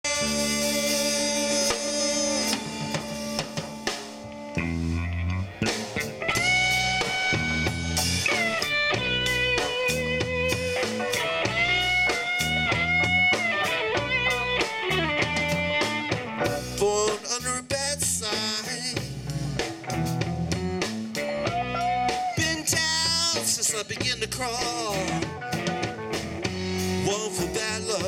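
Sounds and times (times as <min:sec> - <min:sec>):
drum kit: 0:00.0 - 0:28.0
electric bass riff: 0:00.0 - 0:28.0
electric guitars: 0:00.0 - 0:28.0.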